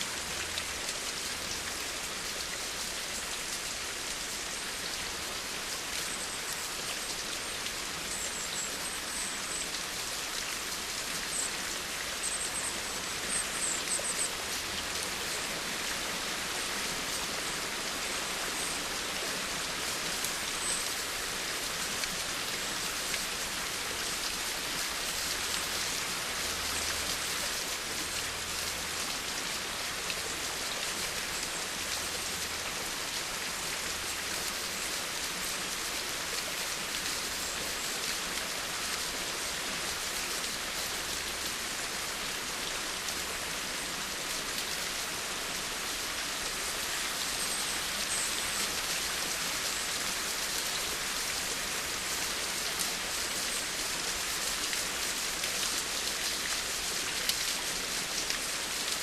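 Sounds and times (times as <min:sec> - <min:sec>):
rain hissing and pattering: 0:00.0 - 0:59.0.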